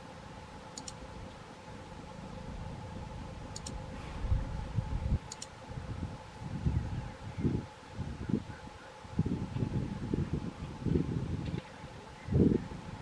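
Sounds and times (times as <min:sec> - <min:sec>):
faint steady hum: 0:00.0 - 0:13.0
wind rumbling on microphone: 0:00.9 - 0:13.0.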